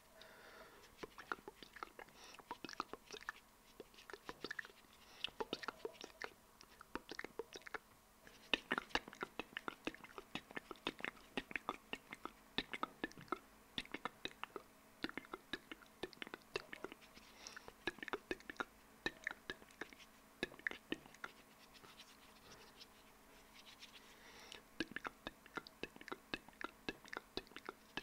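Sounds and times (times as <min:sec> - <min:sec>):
soft breathy hiss: 0:00.0 - 0:28.0
lip smacks: 0:00.2 - 0:28.0
tongue clicks: 0:00.9 - 0:22.1, 0:24.5 - 0:28.0.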